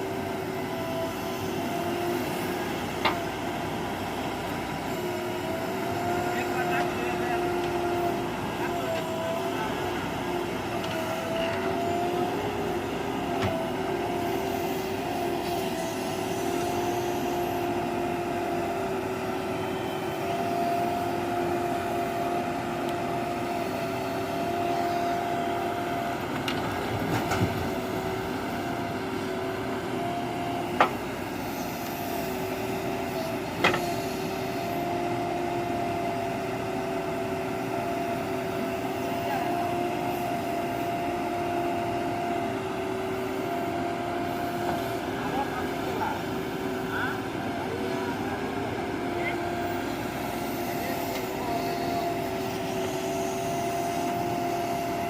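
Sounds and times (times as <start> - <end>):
diesel engine whining: 0.0 - 55.0.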